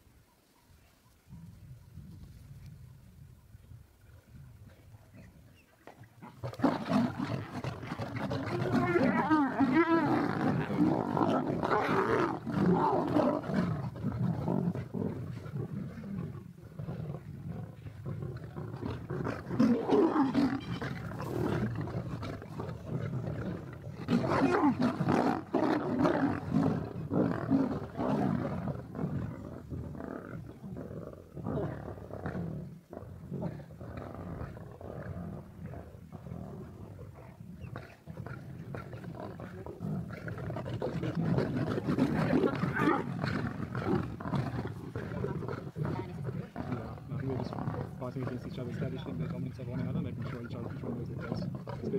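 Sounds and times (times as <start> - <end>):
lions snarling and growling: 4.7 - 51.9.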